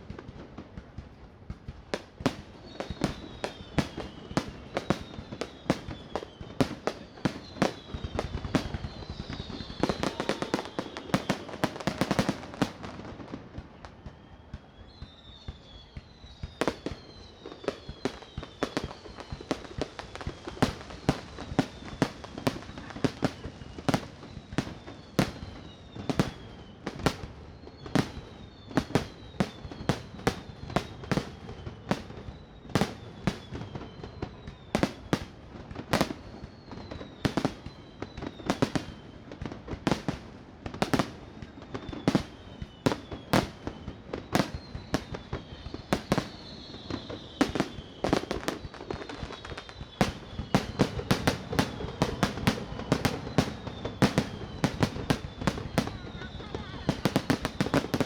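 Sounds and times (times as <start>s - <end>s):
firework bangs and pops: 0.0s - 58.0s
firework whistles falling in pitch: 1.7s - 58.0s.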